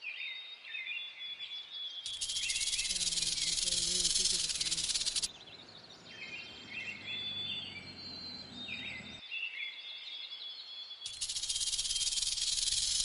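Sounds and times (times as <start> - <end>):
small birds chirping: 1.4 - 13.0.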